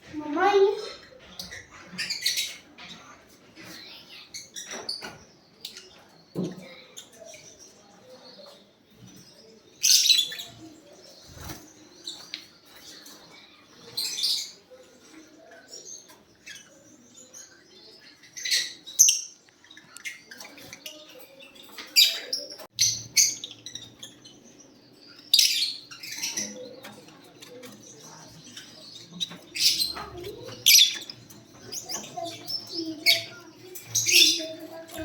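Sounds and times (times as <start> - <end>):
lovebirds chirping: 0.0 - 35.0.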